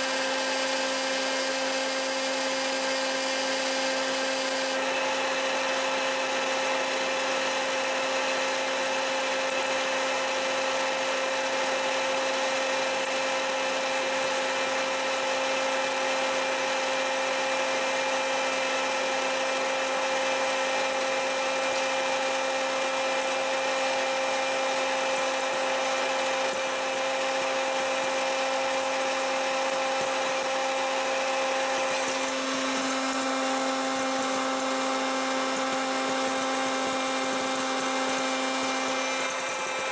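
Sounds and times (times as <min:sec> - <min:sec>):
popcorn machine fan whine: 0:00.0 - 0:39.9.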